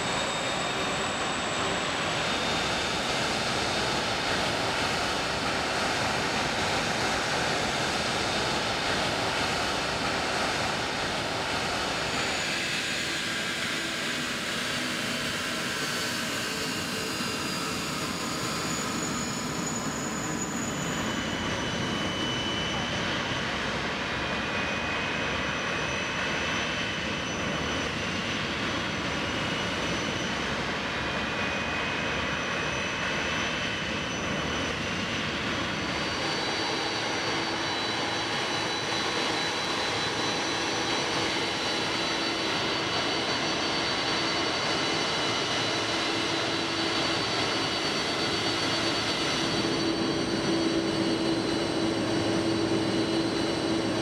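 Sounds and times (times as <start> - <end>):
jet engines idling with turbine whine: 0.0 - 54.0.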